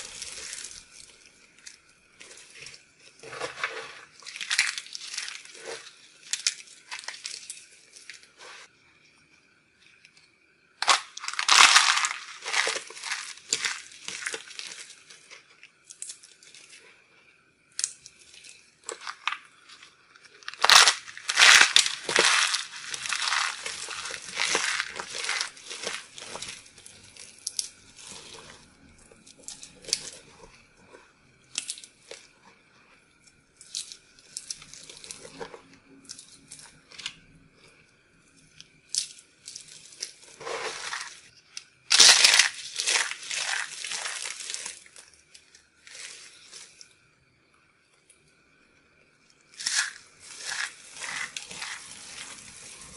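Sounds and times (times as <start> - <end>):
hands crushing dry soap pieces: 0.0 - 8.6, 10.8 - 16.8, 17.6 - 32.4, 33.0 - 47.0, 49.6 - 52.9.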